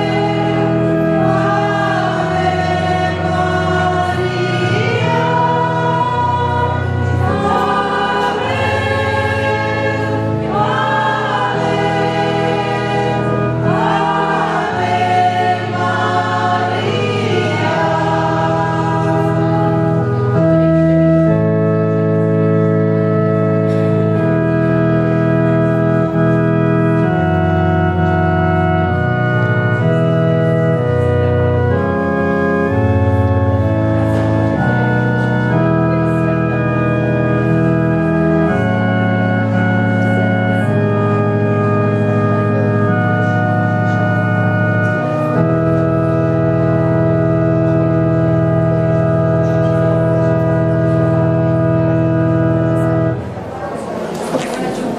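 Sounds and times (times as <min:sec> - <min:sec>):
organ playing sustained chords: 0:00.0 - 0:54.9.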